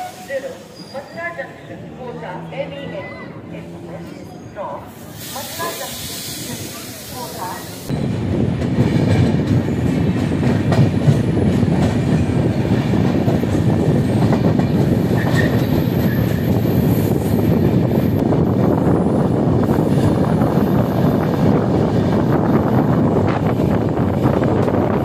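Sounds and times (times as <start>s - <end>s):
train wheels rumbling on rails: 3.4s - 25.0s.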